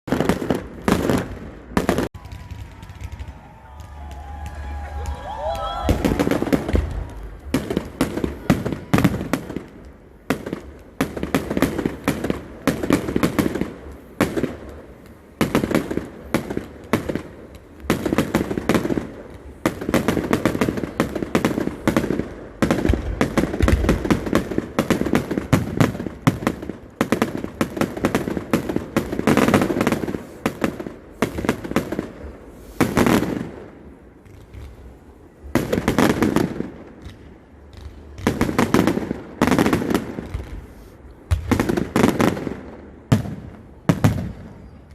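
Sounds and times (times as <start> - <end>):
fireworks cracking and crackling: 0.0 - 44.9
heavy firework bangs: 0.1 - 44.9.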